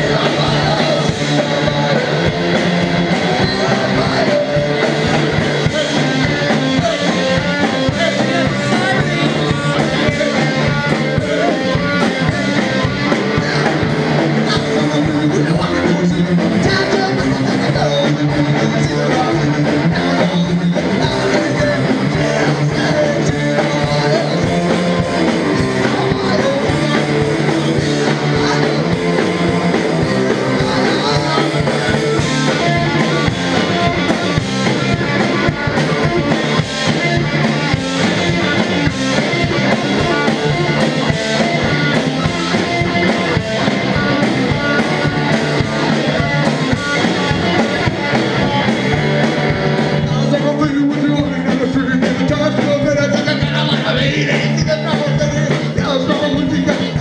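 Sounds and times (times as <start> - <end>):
bass guitar: 0.0 - 57.0
drum kit beat: 0.0 - 57.0
electric guitar: 0.0 - 57.0.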